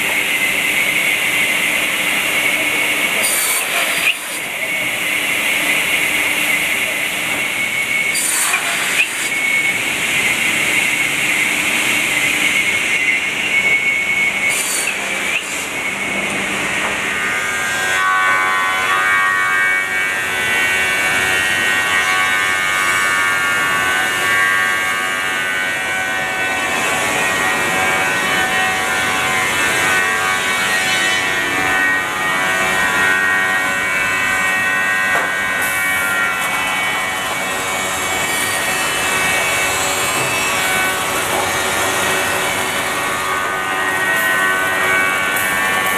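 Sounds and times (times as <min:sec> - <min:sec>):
saw machine whine: 0:00.0 - 0:45.9.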